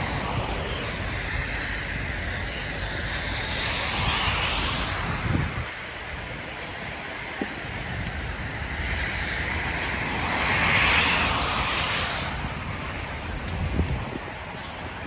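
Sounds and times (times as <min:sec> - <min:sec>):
low rumble: 0:00.0 - 0:15.0
vehicle tyre hiss on snow: 0:00.0 - 0:15.0.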